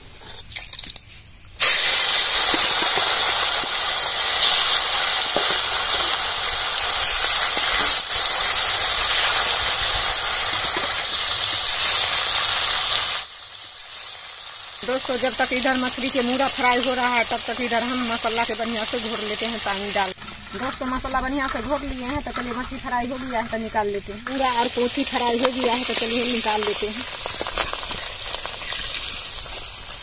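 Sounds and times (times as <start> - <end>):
fish sizzling in hot oil: 1.6 - 30.0.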